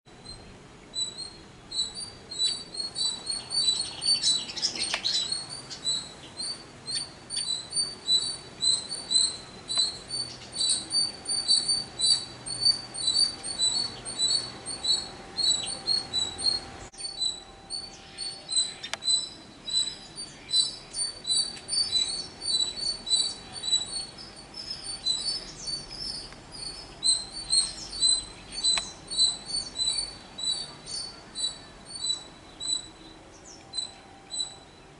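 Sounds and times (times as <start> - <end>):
bird giving sharp alarm chirps: 0.2 - 34.8.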